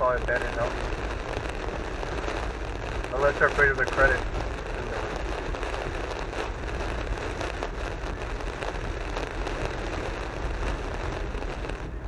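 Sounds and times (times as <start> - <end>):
tyres hissing on wet road: 0.0 - 11.7
heavy rain hitting car: 0.0 - 12.0
low road rumble: 0.0 - 12.0.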